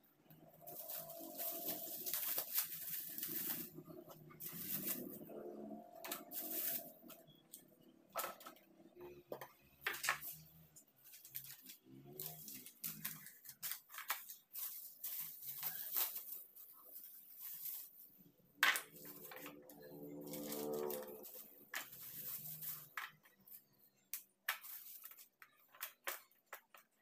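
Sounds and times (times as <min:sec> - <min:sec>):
plastic bags crinkling: 0:00.4 - 0:07.6, 0:09.9 - 0:27.0.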